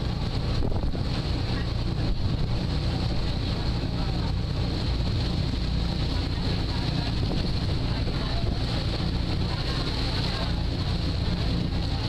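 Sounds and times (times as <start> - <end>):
ferry engine rumble: 0.0 - 12.0
rushing water: 0.0 - 12.0
wind on microphone: 0.0 - 12.0.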